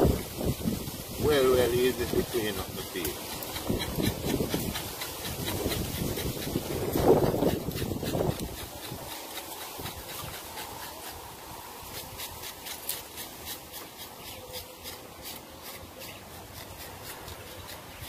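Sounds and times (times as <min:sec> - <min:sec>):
knife scraping bristles off skin: 0:01.6 - 0:18.0.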